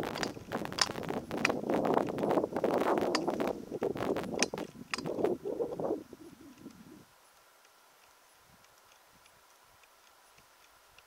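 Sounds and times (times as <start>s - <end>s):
faint steady hiss: 0.0s - 11.0s
faint ticks: 0.1s - 5.3s, 6.5s - 11.0s.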